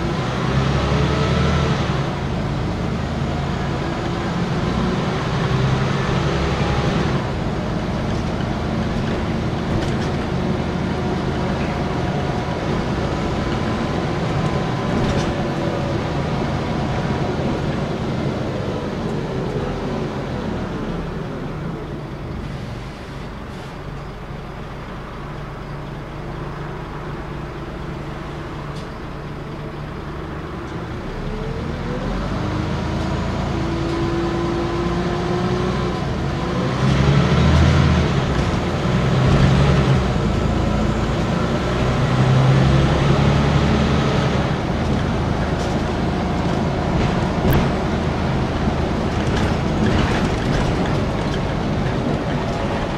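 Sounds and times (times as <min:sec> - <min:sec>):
bus engine running: 0:00.0 - 0:52.9
drivetrain whine: 0:01.6 - 0:52.9.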